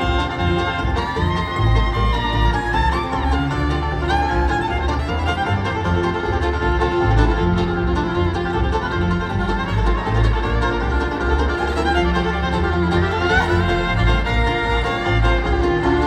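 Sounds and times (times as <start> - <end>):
bluegrass band playing: 0.0 - 16.0
fiddle lead: 0.0 - 16.0.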